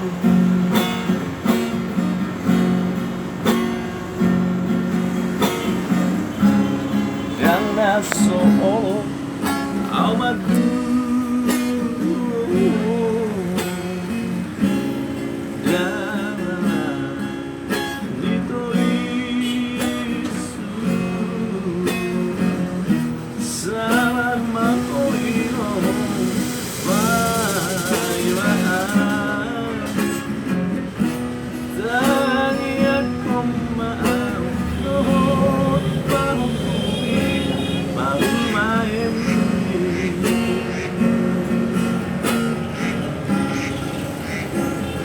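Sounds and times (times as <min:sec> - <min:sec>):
strummed acoustic guitar: 0:00.0 - 0:45.0.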